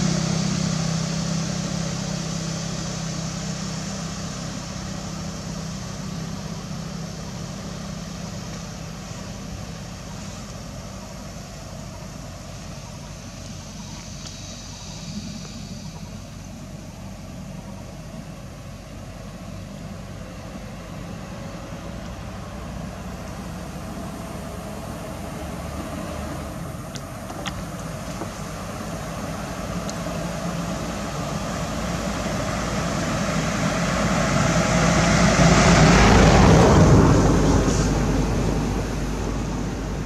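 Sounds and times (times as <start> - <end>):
passing vehicle engine and road rumble: 0.0 - 40.0.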